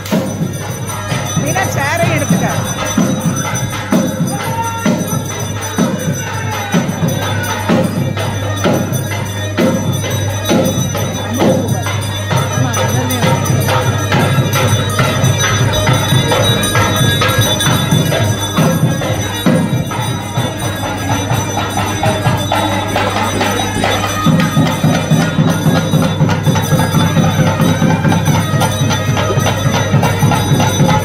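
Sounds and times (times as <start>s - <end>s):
hand bell ringing: 0.0s - 31.0s
steady drone: 5.2s - 31.0s.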